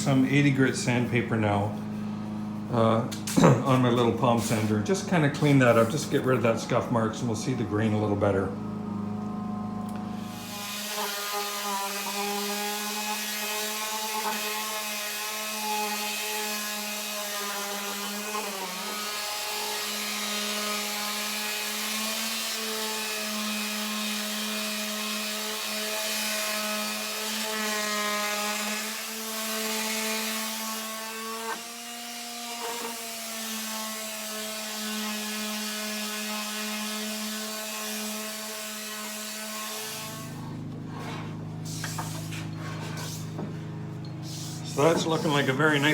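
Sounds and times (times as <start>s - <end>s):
electric palm sander on wood: 0.0s - 8.4s, 10.1s - 45.9s.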